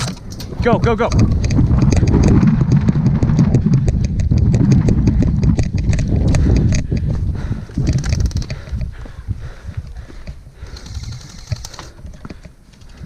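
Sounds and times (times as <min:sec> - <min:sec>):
gear rustling and knocking: 0:00.0 - 0:13.0
microphone jostling rumble: 0:00.0 - 0:13.0
running footfalls: 0:00.7 - 0:13.0.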